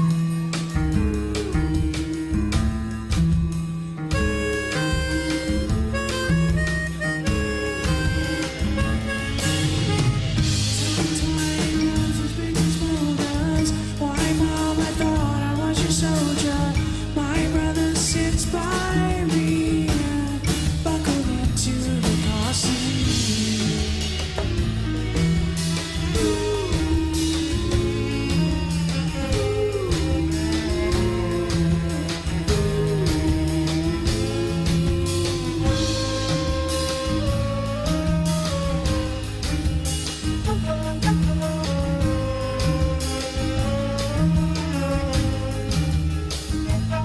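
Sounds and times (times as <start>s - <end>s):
pitch-bending melody line: 0.0s - 21.3s, 22.3s - 47.0s
rock band playing live: 0.0s - 47.0s.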